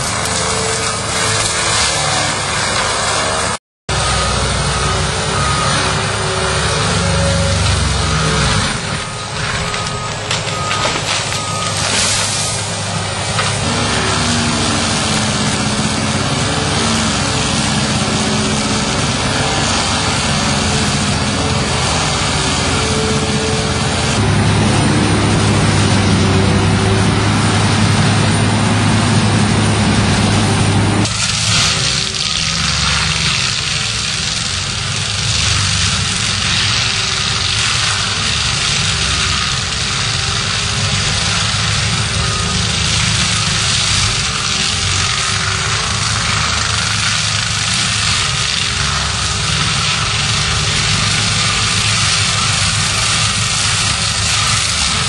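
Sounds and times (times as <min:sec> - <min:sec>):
mulcher engine hum: 0:00.0 - 0:55.0.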